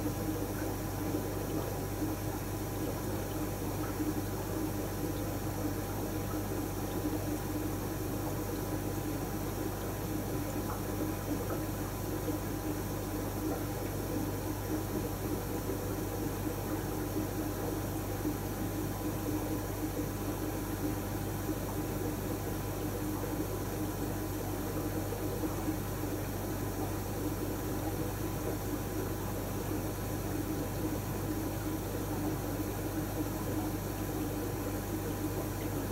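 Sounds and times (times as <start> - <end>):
aquarium equipment humming: 0.0 - 35.9.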